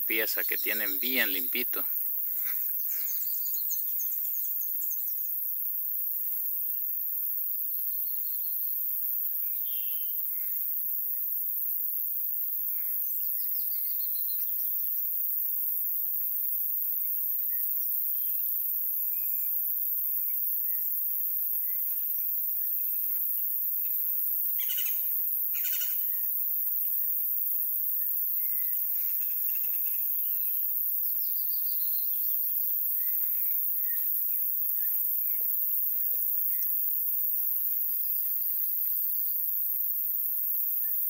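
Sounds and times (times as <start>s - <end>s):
steady high hiss: 0.0s - 41.0s.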